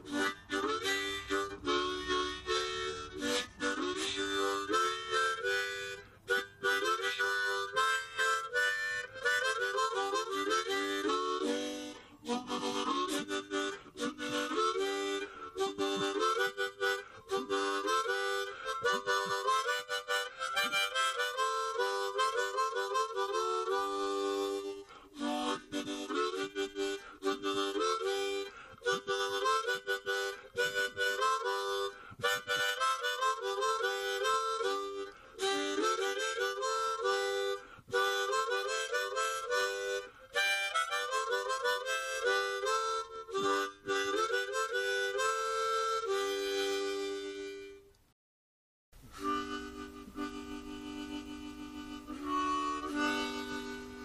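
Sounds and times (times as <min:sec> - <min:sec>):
harmonica tune: 0:00.0 - 0:48.0, 0:49.0 - 0:54.0.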